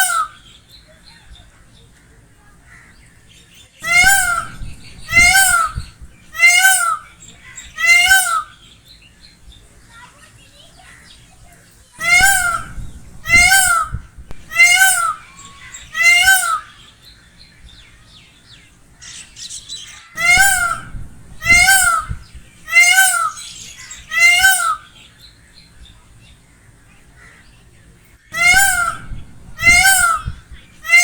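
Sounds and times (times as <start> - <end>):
peacock calling: 0.0 - 11.4, 12.0 - 31.0.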